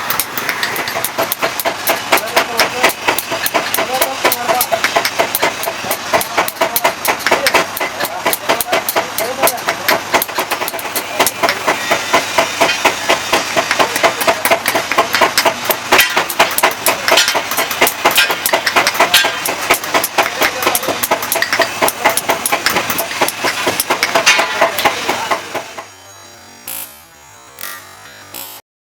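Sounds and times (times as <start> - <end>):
metal-on-metal tapping: 0.0 - 25.8.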